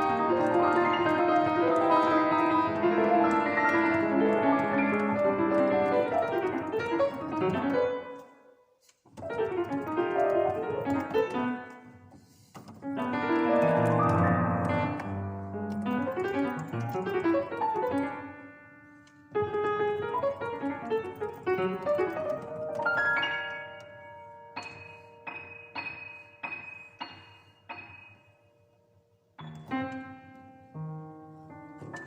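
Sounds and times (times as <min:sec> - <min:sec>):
solo piano playing: 0:00.0 - 0:08.2, 0:09.2 - 0:11.8, 0:12.8 - 0:32.0.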